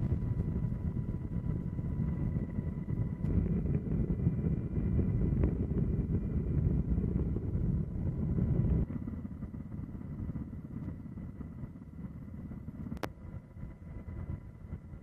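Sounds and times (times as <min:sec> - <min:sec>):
faint high whine: 0:00.0 - 0:15.0
low steady rumble: 0:00.0 - 0:15.0
wind buffeting microphone: 0:00.0 - 0:15.0.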